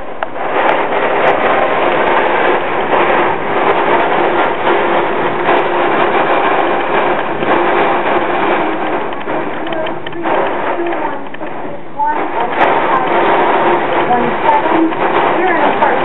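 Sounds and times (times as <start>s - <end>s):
wind and rain against window: 0.0s - 16.0s.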